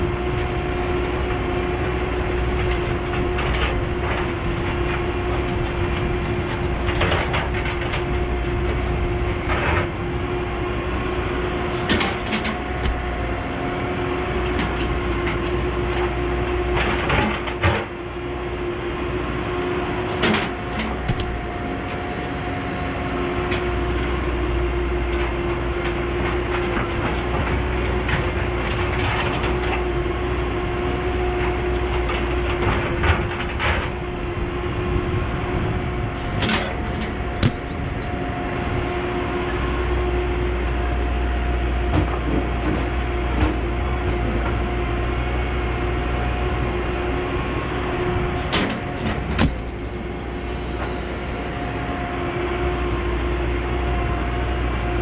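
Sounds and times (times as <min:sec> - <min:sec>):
excavator diesel engine whining: 0:00.0 - 0:55.0.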